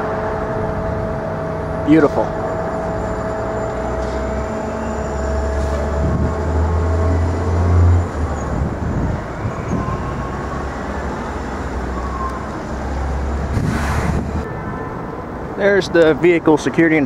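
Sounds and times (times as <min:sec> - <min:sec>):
heavy vehicle engine rumble: 0:00.0 - 0:15.5
passing car noise: 0:00.0 - 0:17.0.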